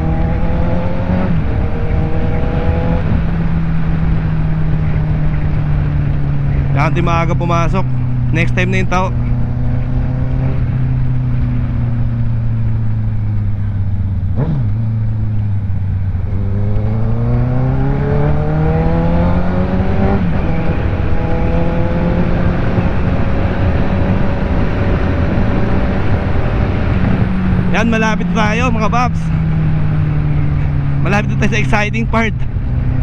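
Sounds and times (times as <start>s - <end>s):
motorcycle engine accelerating: 0.0s - 33.0s
wind rush: 0.0s - 33.0s.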